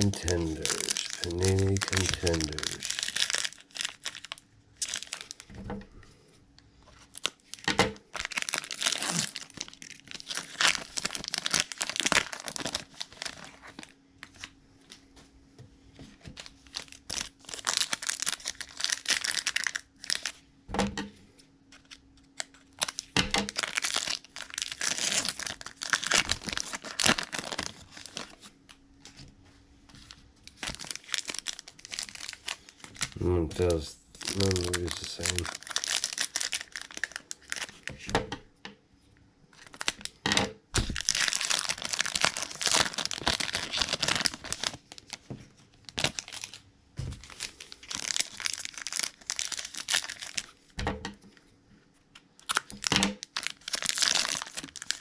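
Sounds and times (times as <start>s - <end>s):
plastic wrapping crinkling: 0.0s - 5.6s, 6.8s - 15.1s, 16.1s - 20.4s, 21.7s - 29.2s, 29.9s - 38.0s, 39.5s - 40.2s, 40.8s - 50.7s, 52.1s - 55.0s.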